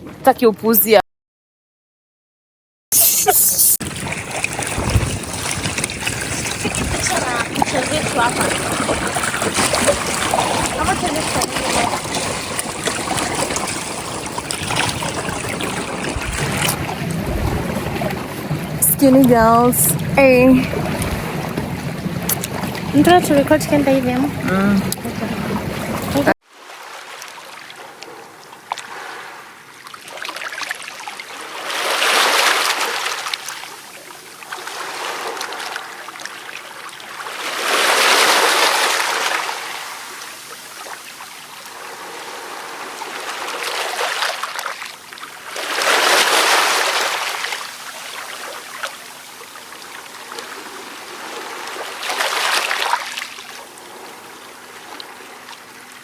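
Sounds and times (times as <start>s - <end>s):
ocean waves breaking on beach: 3.4s - 56.0s.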